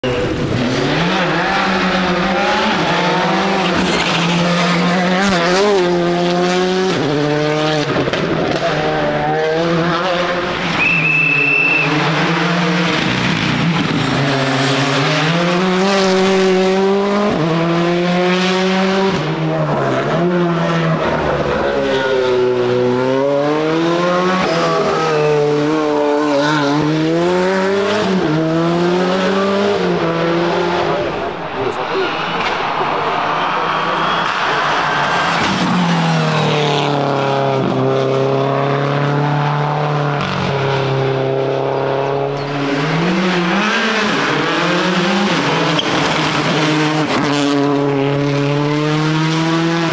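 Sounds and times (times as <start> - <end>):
rally car engines at full throttle: 0.0 - 49.9.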